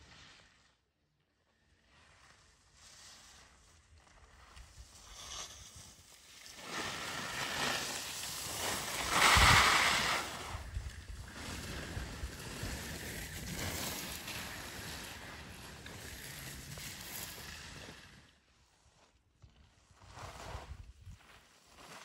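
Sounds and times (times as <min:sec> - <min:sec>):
skis swishing through snow: 0:00.0 - 0:01.0, 0:01.6 - 0:22.0.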